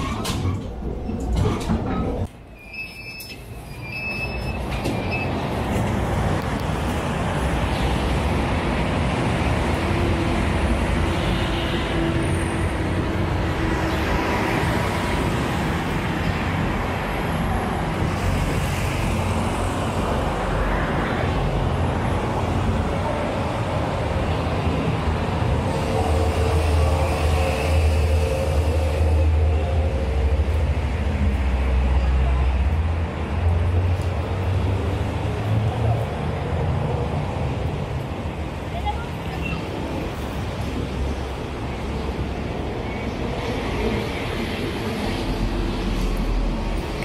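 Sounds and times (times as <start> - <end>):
train rumbling past: 0.0 - 47.0.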